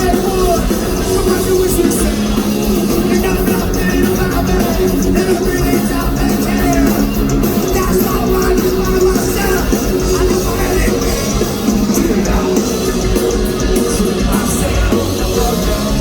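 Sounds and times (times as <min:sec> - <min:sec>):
punk rock band playing: 0:00.0 - 0:16.0
shouted singing: 0:00.0 - 0:16.0.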